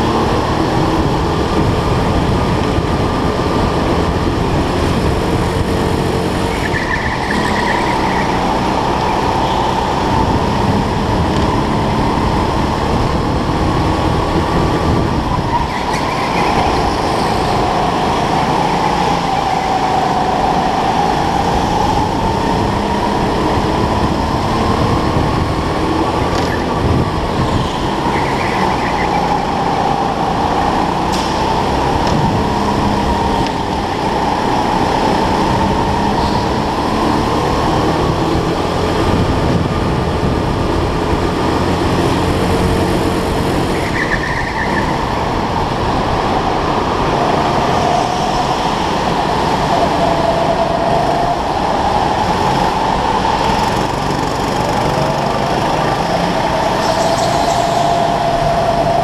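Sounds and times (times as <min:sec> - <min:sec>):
go-kart motor running: 0:00.0 - 0:59.0.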